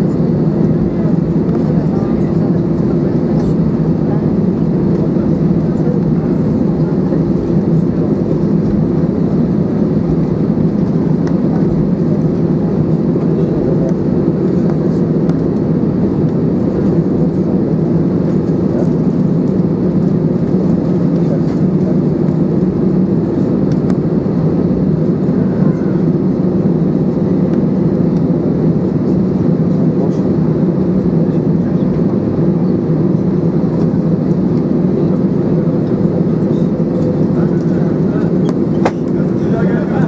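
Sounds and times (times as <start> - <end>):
jet engines droning at idle: 0.0 - 40.0.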